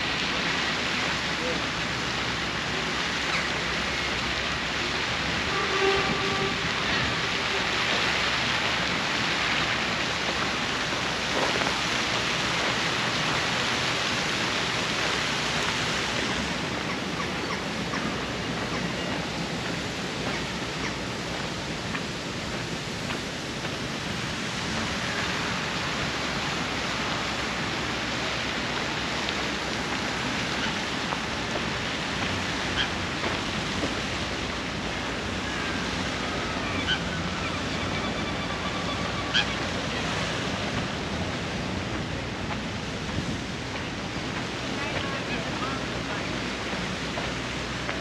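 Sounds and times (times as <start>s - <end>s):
steady rushing outdoor noise: 0.0s - 48.0s.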